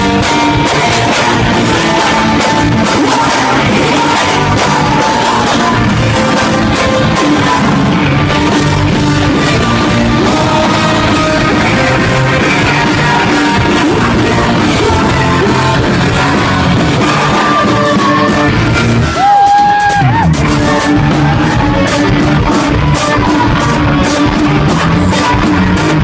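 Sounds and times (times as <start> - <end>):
person singing and yelling: 0.0 - 26.0
rock band playing: 0.0 - 26.0.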